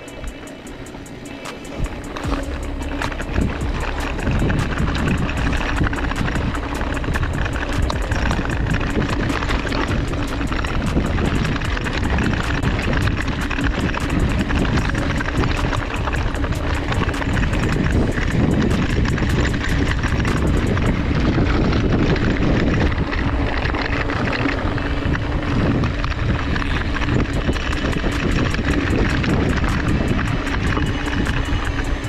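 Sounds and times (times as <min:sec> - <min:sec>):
bike tyres rumbling on trail: 0:00.0 - 0:32.0
light clicking and rattling: 0:00.0 - 0:32.0
wind buffeting microphone: 0:00.0 - 0:32.0.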